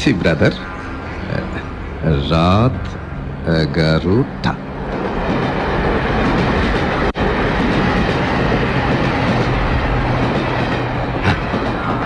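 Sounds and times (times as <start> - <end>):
train rumble and rattle: 0.0 - 12.0.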